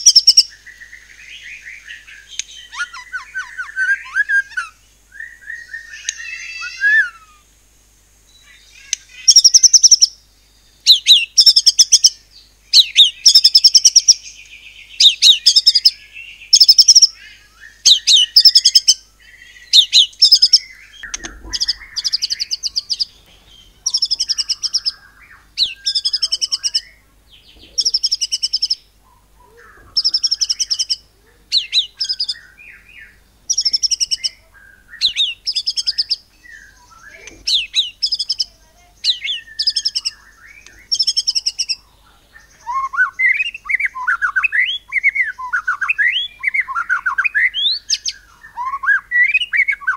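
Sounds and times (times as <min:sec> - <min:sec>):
songbird singing rapid volleys: 0:00.0 - 0:07.4, 0:08.1 - 0:49.9.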